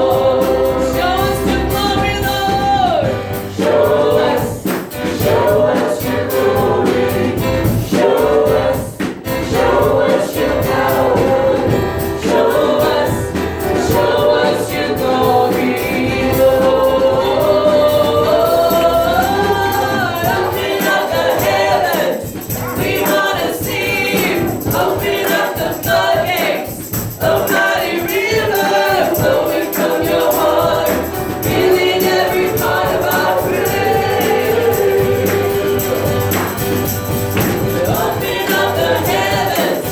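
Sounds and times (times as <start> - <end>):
band playing: 0.0 - 39.9
group singing worship song: 0.0 - 39.9
tambourine: 0.0 - 39.9.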